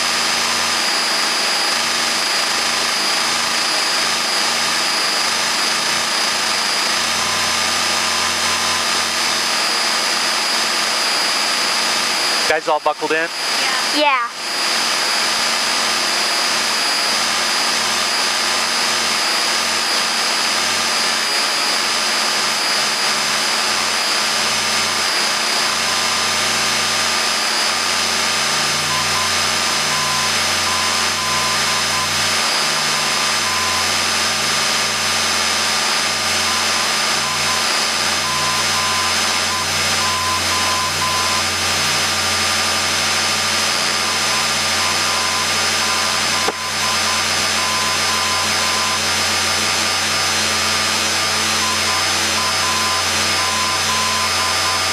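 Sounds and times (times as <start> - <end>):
aircraft engine drone in cabin: 0.0 - 54.9.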